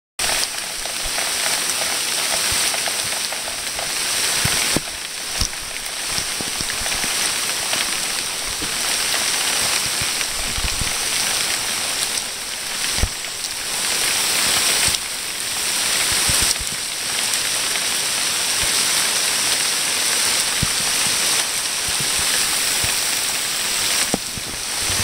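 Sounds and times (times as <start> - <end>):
heavy rain on a street: 0.2 - 25.0
raindrops tapping nearby: 0.2 - 25.0.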